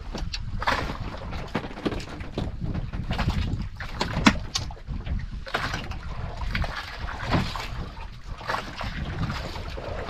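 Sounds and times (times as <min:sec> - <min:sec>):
low wind rumble: 0:00.0 - 0:10.0
water slapping boat hull: 0:00.0 - 0:10.0.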